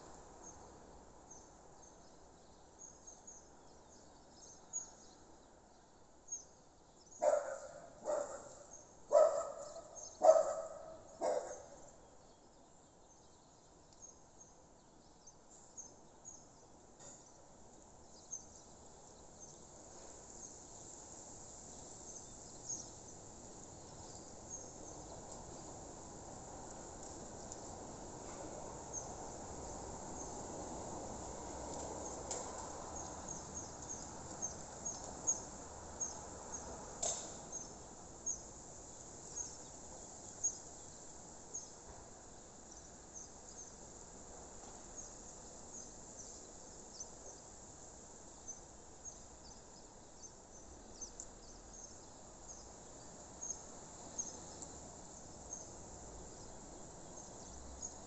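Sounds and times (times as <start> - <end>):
soft low hiss: 0.0 - 58.0.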